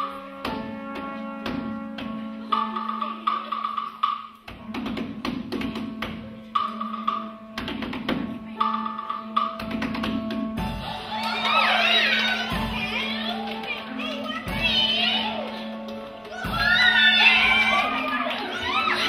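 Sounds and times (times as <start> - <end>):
instrumental music: 0.0 - 19.0.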